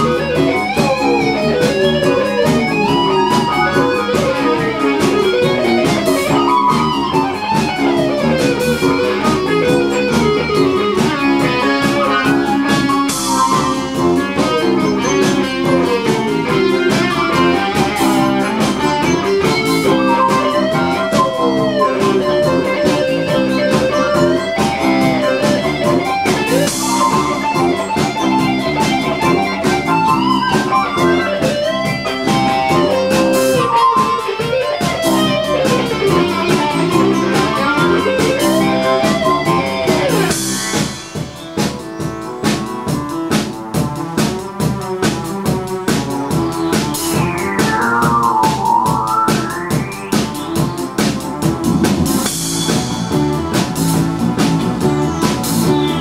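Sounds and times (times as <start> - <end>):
electric guitar with pitch bends: 0.0 - 56.0
live band music: 0.0 - 56.0.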